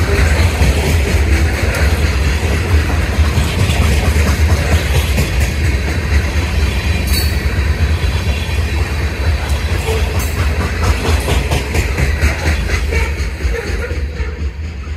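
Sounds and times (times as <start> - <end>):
steel wheels rumbling on rail: 0.0 - 14.9
wheels clicking: 0.0 - 14.9.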